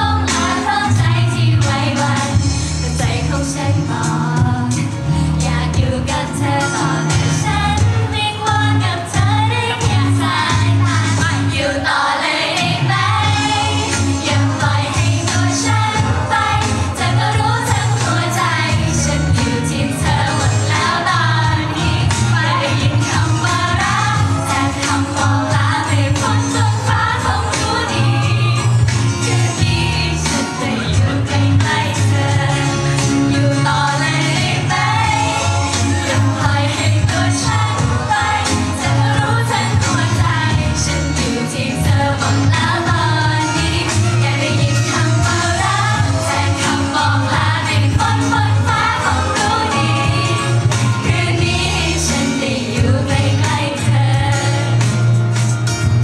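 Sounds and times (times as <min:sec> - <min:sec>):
women singing in unison: 0:00.0 - 0:55.1
pop backing track: 0:00.0 - 0:56.0.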